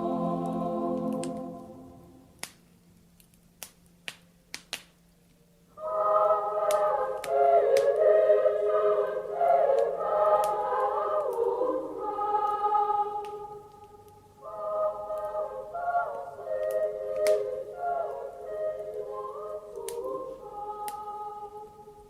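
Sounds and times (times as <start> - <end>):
choir singing: 0.0 - 2.3, 5.8 - 22.0
wood fire crackling: 0.0 - 8.6, 9.5 - 21.6.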